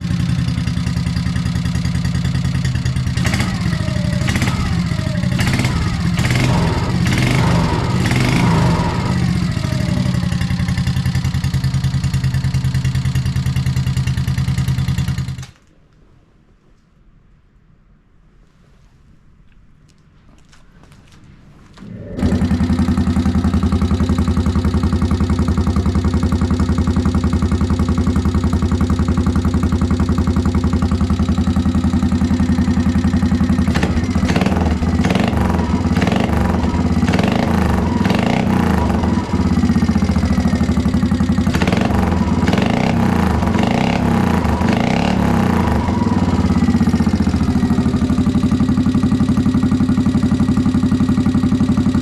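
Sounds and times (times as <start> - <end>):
motorcycle engine idling: 0.0 - 15.6, 21.8 - 52.0
motorcycle throttle blips: 0.0 - 15.6, 21.7 - 52.0.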